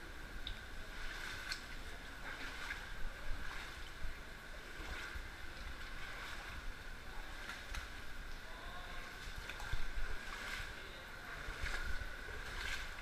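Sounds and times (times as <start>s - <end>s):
water sloshing from wading: 0.0s - 13.0s
small splashes: 0.4s - 13.0s.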